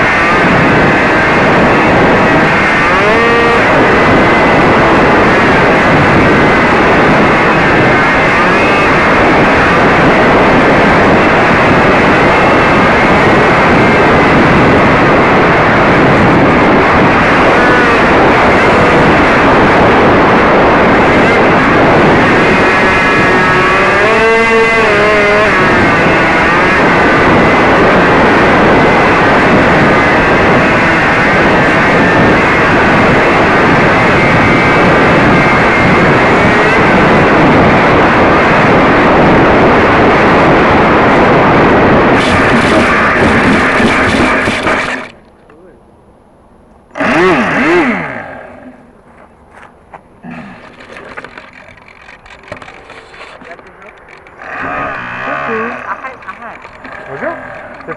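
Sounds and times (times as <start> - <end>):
model plane motor whine: 0.0 - 45.2, 46.9 - 48.8, 50.6 - 57.9
wind rush over microphone: 0.0 - 57.9.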